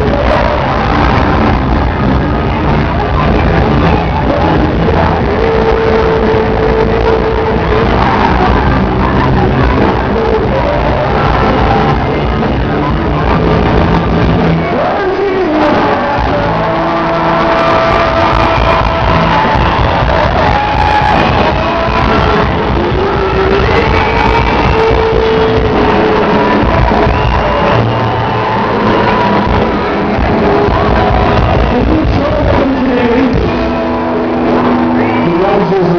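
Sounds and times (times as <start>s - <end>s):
crowd shouting along: 0.0s - 33.2s
live band playing: 0.0s - 35.9s
person singing: 0.0s - 35.9s.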